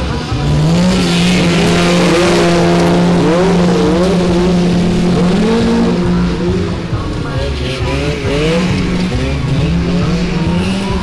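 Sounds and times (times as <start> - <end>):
lawn tractor engines racing: 0.0 - 11.0.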